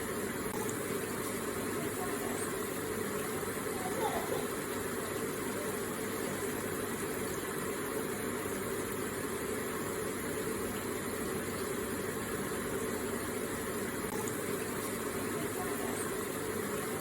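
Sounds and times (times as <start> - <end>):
water feature trickling: 0.0 - 17.0.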